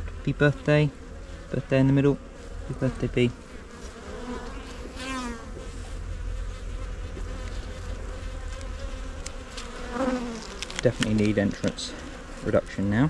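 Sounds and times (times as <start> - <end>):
bee flying past: 0.0 - 13.0
honeybees buzzing: 0.0 - 13.0.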